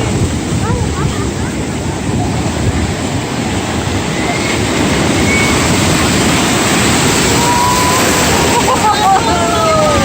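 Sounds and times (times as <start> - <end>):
surf: 0.0 - 10.0
wind: 0.0 - 10.0.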